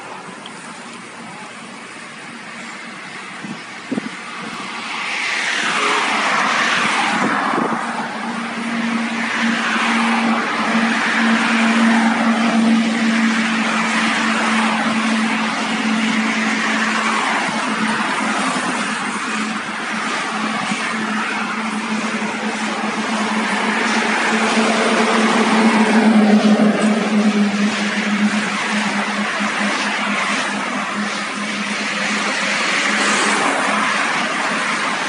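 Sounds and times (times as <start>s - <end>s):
cars passing on road: 0.0s - 35.0s
diesel locomotive drone: 0.0s - 35.0s.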